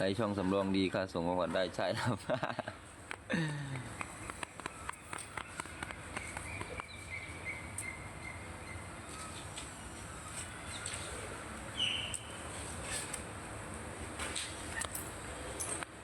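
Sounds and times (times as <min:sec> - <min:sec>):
birds chirping faintly: 0:00.0 - 0:13.3.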